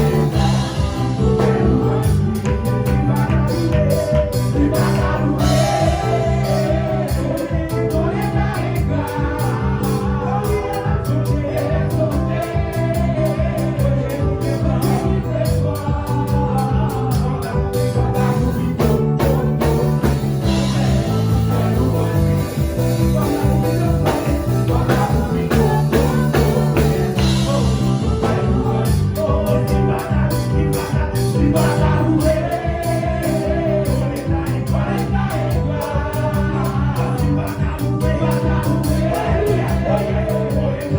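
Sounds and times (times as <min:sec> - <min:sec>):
band with quick percussion: 0:00.0 - 0:40.9
repeating bass line: 0:00.0 - 0:40.9
voices singing gospel: 0:00.0 - 0:40.9.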